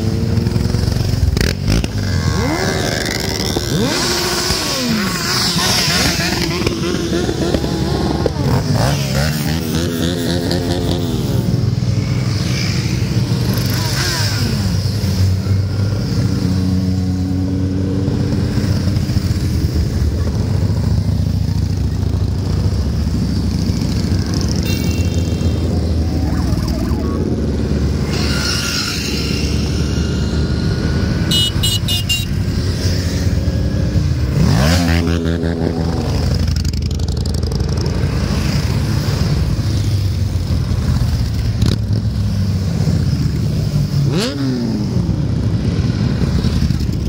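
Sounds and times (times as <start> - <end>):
motorcycle passing close: 0.0 - 47.0
motorcycles riding past: 0.0 - 47.0.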